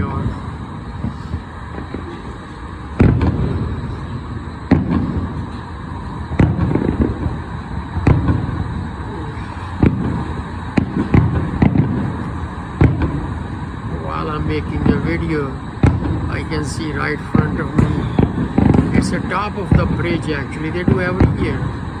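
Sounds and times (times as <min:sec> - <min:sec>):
firework shell bursts: 0:00.0 - 0:22.0
low rumble: 0:00.0 - 0:22.0.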